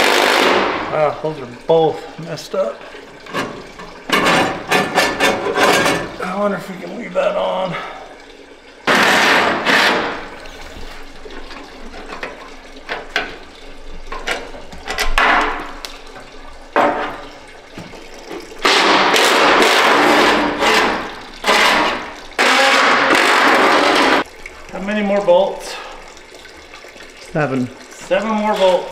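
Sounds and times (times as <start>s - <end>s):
liquid trickling: 0.0s - 28.9s.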